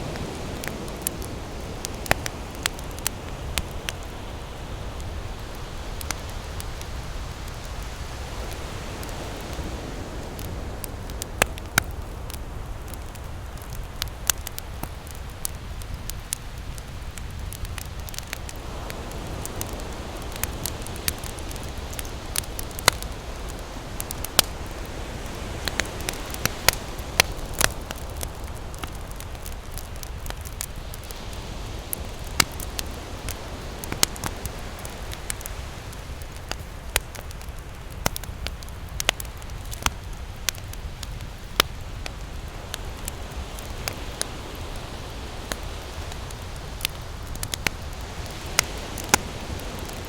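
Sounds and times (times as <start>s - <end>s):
campfire crackling and popping: 0.0s - 50.0s
ocean waves: 0.0s - 50.0s.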